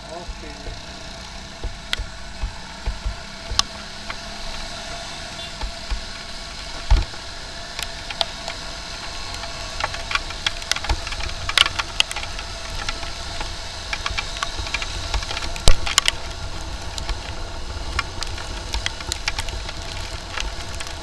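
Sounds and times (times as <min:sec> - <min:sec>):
motorcycle engine: 0:00.0 - 0:21.0
raindrops ticking on microphone: 0:00.0 - 0:21.0
wind rumble: 0:00.0 - 0:21.0.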